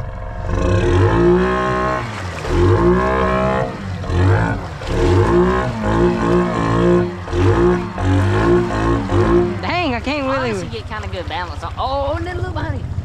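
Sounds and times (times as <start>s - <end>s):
atv engine revving: 0.0s - 13.0s
water churning: 0.0s - 13.0s.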